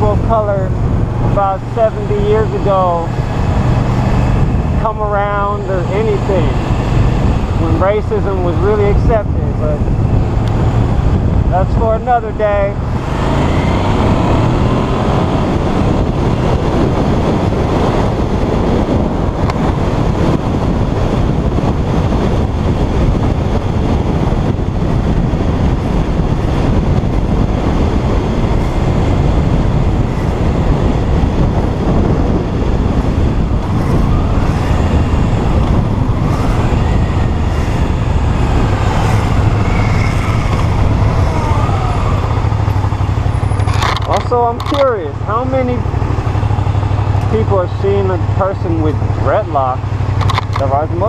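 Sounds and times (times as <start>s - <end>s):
motorcycle engine: 0.0s - 51.0s
road noise: 0.0s - 51.0s
wind rushing over microphone: 0.0s - 51.0s.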